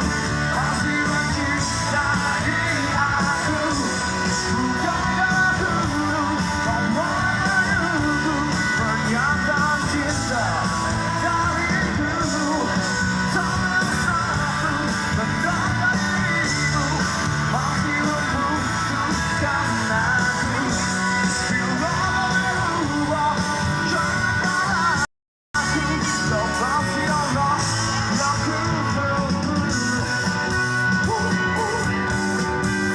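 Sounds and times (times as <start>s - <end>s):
electric guitar: 0.0s - 25.0s, 25.6s - 32.9s
live rock band: 0.0s - 32.9s
person singing: 0.0s - 32.9s.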